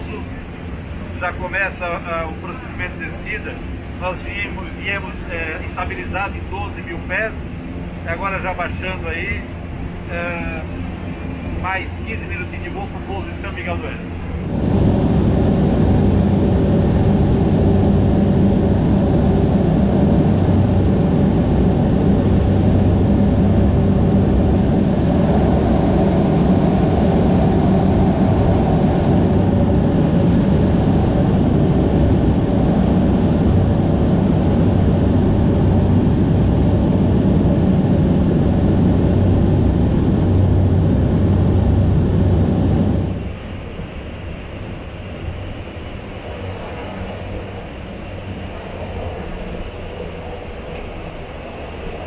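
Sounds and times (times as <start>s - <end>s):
turboprop engine cabin drone: 0.0s - 52.0s.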